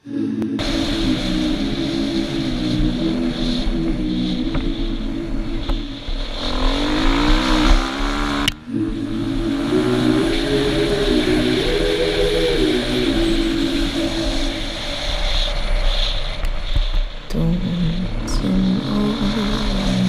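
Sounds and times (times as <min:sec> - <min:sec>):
motorcycle engine revving: 0:00.6 - 0:20.0.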